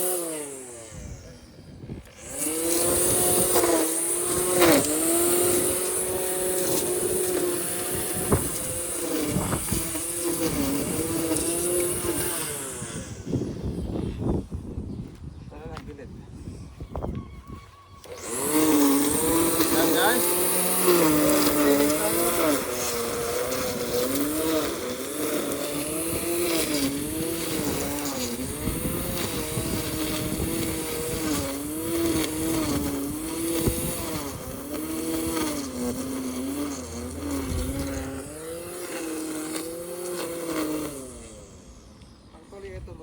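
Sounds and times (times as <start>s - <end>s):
lawn mower running: 0.0s - 14.2s, 18.0s - 42.6s.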